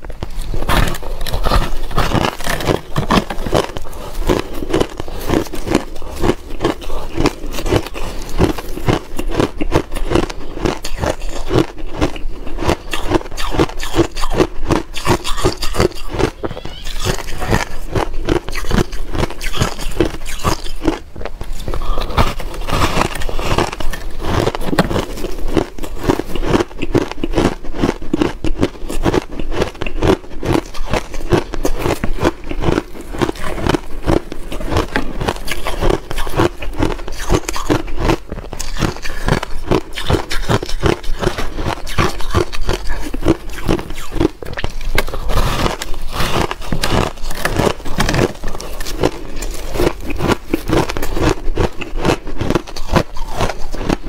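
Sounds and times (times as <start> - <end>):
crunching and chewing shaved ice: 0.0 - 54.0.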